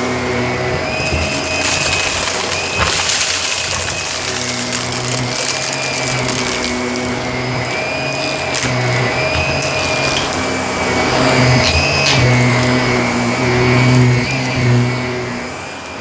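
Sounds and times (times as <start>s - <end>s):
debris crunching in vacuum: 0.0s - 16.0s
vacuum cleaner running over carpet: 0.0s - 16.0s.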